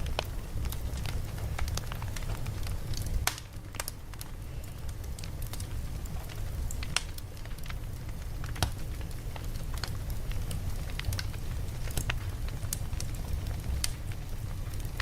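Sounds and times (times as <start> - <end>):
burning wood popping: 0.0 - 15.0
campfire crackling: 0.0 - 15.0.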